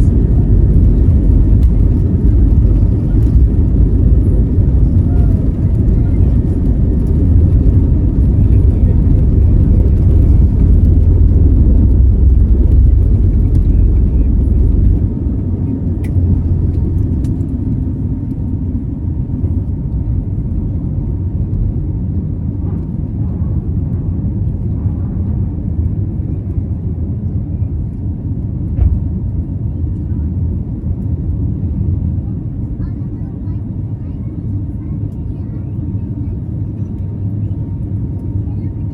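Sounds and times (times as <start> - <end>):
heavy low rumble of takeoff roll: 0.0 - 38.9
jet engines rushing: 0.0 - 38.9.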